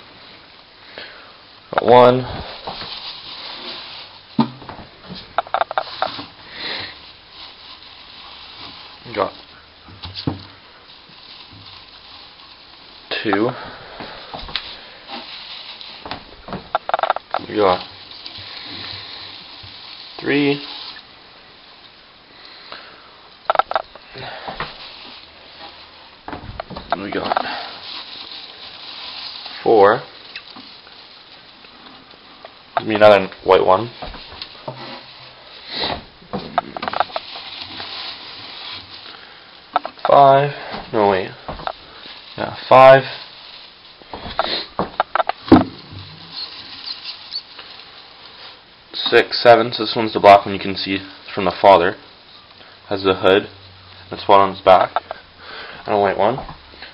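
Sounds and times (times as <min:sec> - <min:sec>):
shredded paper rustling: 0:02.0 - 0:21.2, 0:24.0 - 0:32.2, 0:32.8 - 0:39.5, 0:40.2 - 0:52.0.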